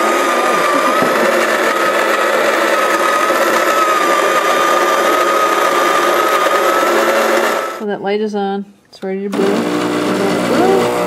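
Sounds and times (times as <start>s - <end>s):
coffee grinder motor whining: 0.0s - 7.8s, 9.3s - 11.0s.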